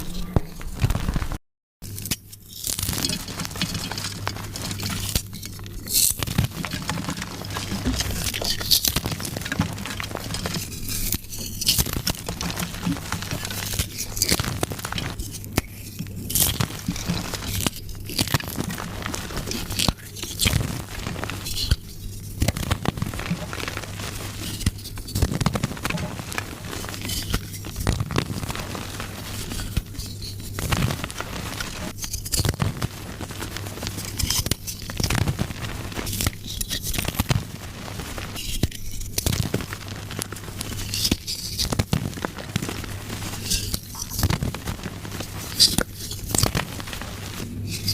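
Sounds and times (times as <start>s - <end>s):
chalk being crushed: 1.9s - 47.9s.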